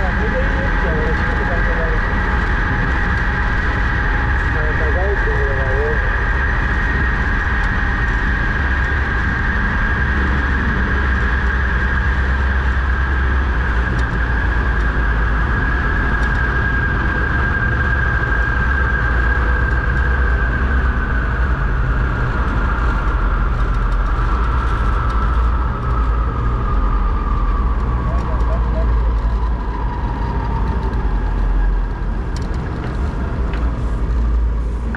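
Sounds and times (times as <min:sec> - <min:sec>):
cable car low rumble: 0:00.0 - 0:34.9
high mechanical whine: 0:00.0 - 0:34.9.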